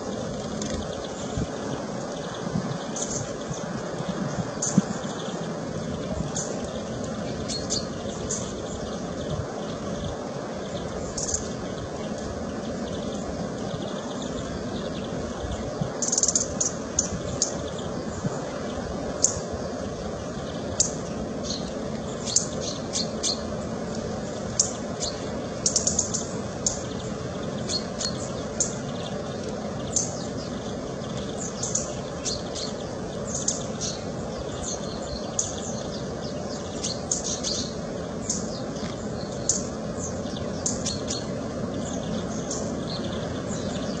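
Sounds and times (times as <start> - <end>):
low background hiss: 0.0 - 44.0
small birds chirping: 0.0 - 44.0.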